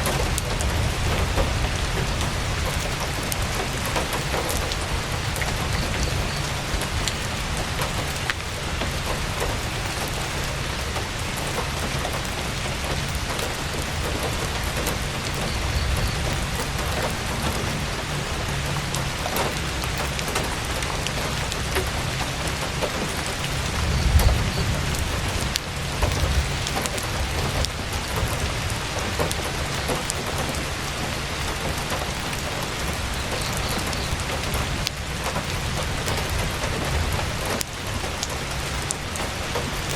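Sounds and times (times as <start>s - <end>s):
heavy rain on tent canvas: 0.0s - 39.9s.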